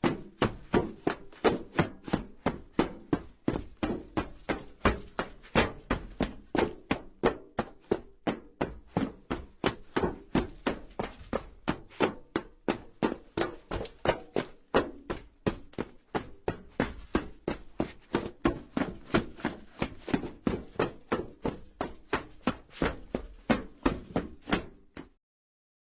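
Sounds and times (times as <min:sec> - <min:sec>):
running footsteps on metal roof: 0:00.0 - 0:25.2.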